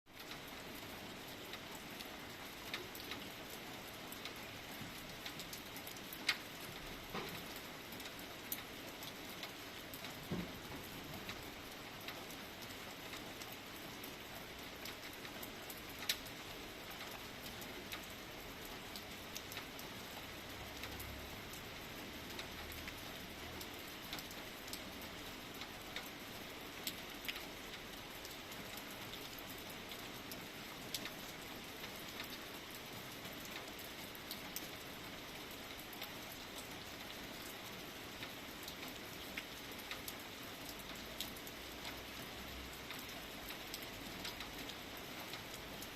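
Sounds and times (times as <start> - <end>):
light rain falling: 0.1 - 45.9.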